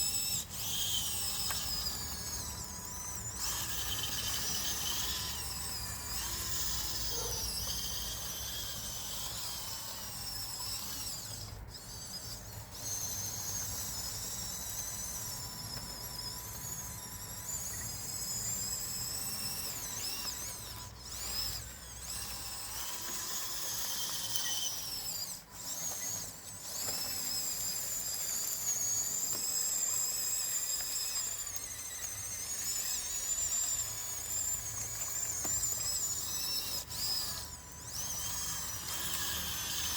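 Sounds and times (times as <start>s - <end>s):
rc bulldozer motors whining: 0.0s - 39.9s.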